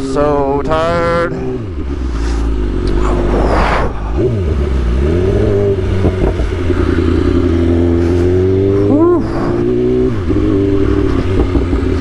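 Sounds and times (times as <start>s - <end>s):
motorcycle engine revving: 0.0s - 12.0s
rush of noise: 1.5s - 11.3s.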